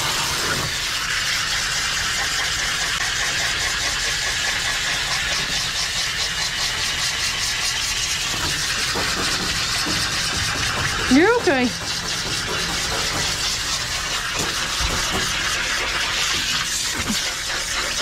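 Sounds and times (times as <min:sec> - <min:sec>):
water spraying from hose: 0:00.0 - 0:18.0.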